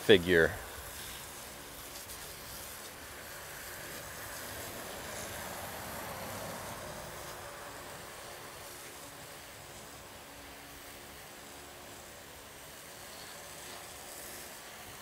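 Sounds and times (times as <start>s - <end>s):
hose nozzle spraying water: 0.0s - 15.0s.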